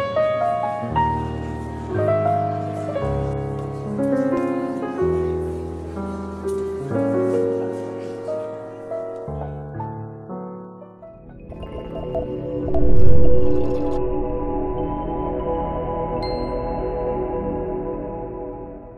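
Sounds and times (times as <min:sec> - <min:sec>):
slow piano music: 0:00.0 - 0:18.9.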